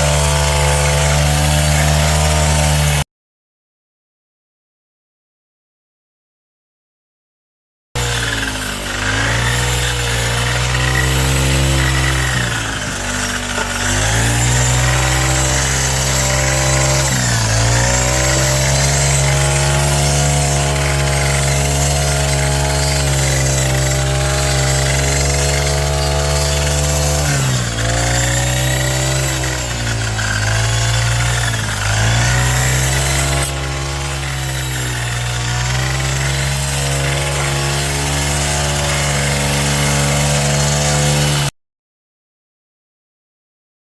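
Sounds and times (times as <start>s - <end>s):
lawn mower engine running: 0.0s - 3.0s, 8.0s - 41.5s.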